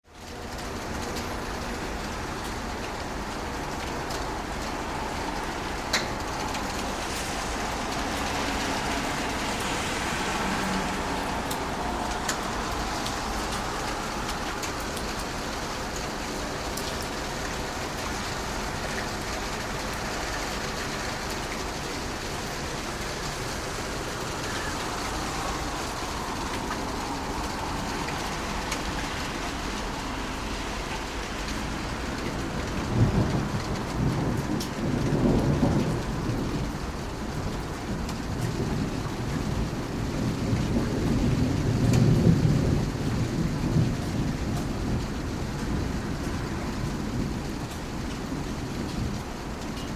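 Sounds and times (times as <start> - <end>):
heavy rain pouring: 0.0 - 49.9
thunder rumbling: 0.5 - 49.9.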